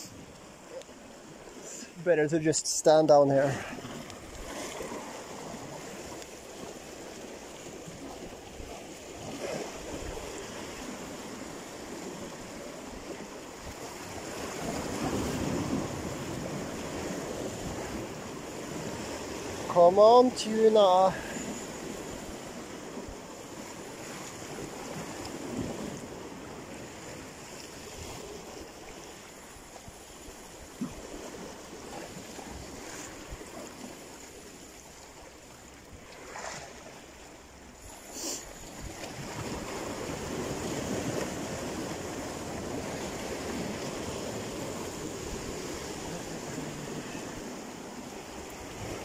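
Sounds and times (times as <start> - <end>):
waves breaking over rocks: 0.0 - 49.0.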